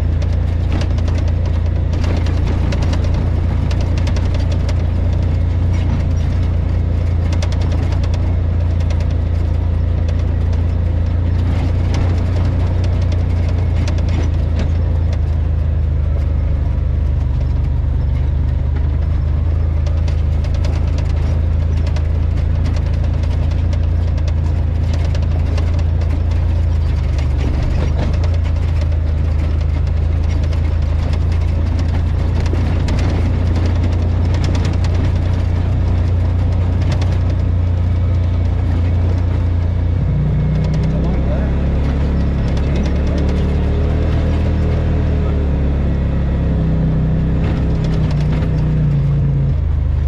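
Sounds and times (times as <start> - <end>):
light clicks and rattles: 0.0 - 44.9
engine low drone: 0.0 - 50.0.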